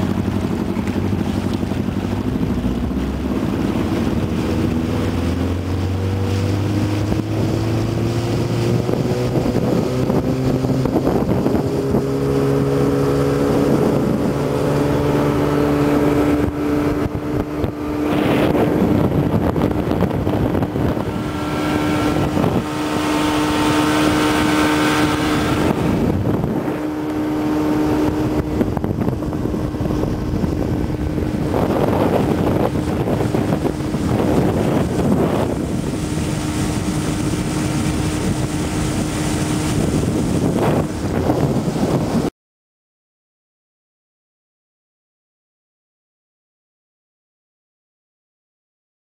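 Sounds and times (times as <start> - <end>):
outboard motor droning: 0.0 - 42.3
wind buffeting microphone: 0.0 - 42.3.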